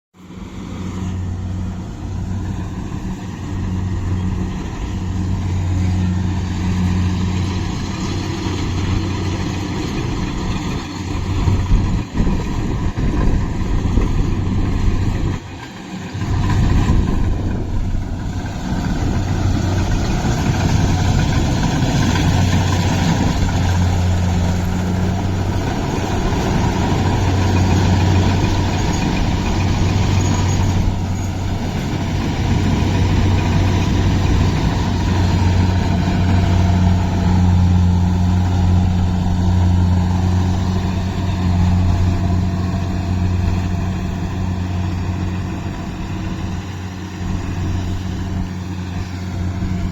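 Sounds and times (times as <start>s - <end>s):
diesel engine under load: 0.2s - 49.9s
harvester machinery clatter: 0.7s - 49.9s.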